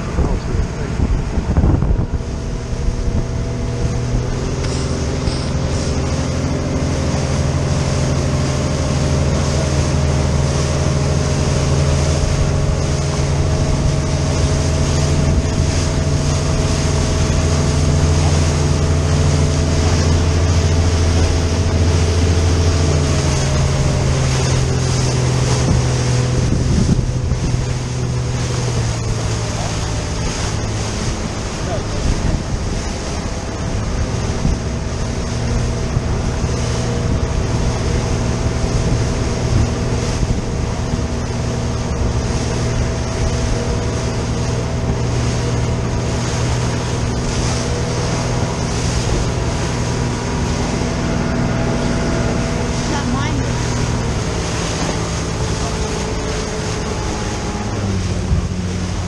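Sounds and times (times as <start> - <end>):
boat engine running: 0.0 - 59.0
water rushing past hull: 0.0 - 59.0.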